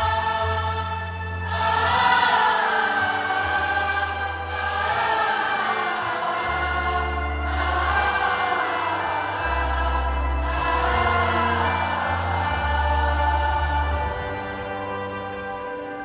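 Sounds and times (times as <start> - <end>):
church choir singing a hymn: 0.0 - 16.0
sustained low bass notes: 0.0 - 16.0.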